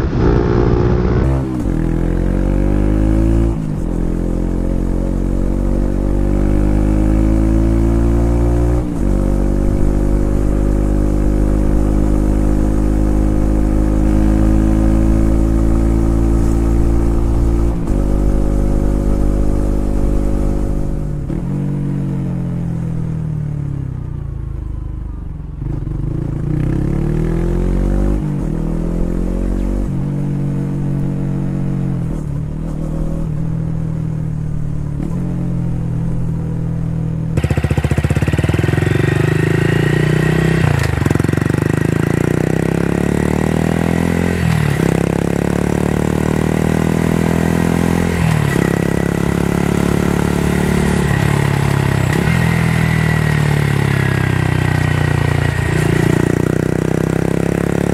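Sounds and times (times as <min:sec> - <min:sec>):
motorcycle engine revving: 0:00.0 - 0:23.2, 0:25.6 - 0:33.8, 0:37.2 - 0:57.9.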